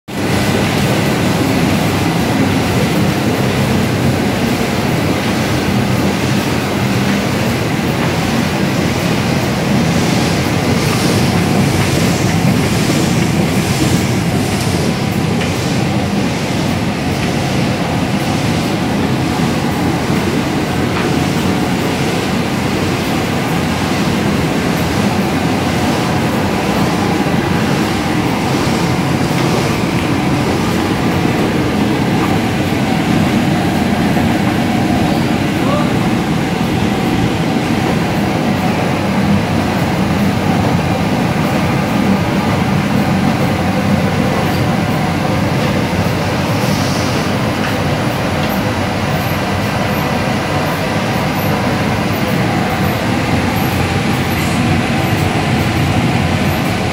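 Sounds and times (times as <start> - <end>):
printing press clattering: 0.1 - 56.9.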